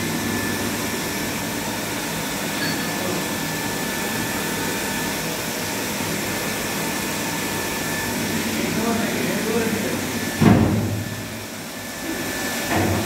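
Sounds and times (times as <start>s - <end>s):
pump motor hum and hiss: 0.0s - 13.0s.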